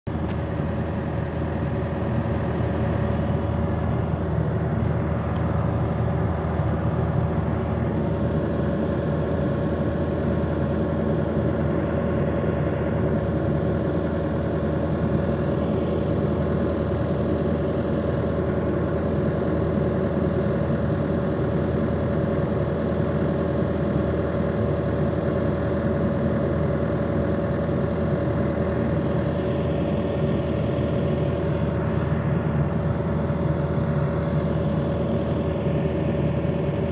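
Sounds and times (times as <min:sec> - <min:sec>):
engine idling hum: 0:00.1 - 0:36.9
mid-pitched whine: 0:00.1 - 0:36.9.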